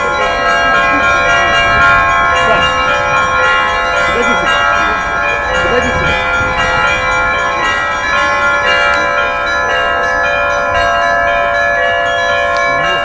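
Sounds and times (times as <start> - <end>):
bells ringing in rhythm: 0.0 - 13.0.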